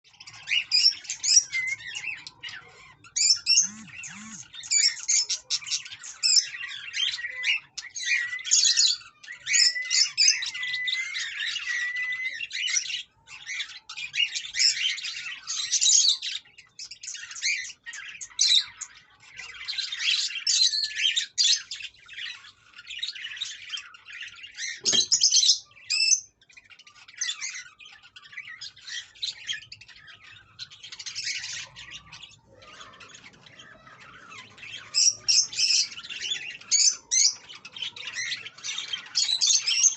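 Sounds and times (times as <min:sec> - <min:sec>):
birds chirping and squawking: 0:00.1 - 0:39.9.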